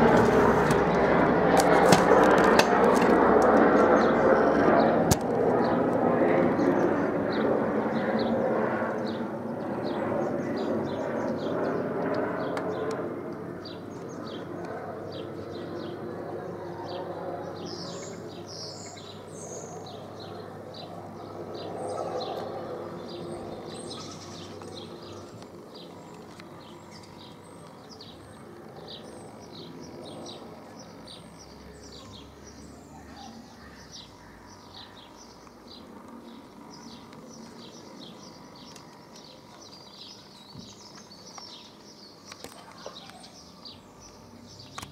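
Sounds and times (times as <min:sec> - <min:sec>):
helicopter flying over: 0:00.0 - 0:44.9
small birds chirping: 0:05.6 - 0:13.0, 0:13.6 - 0:44.9.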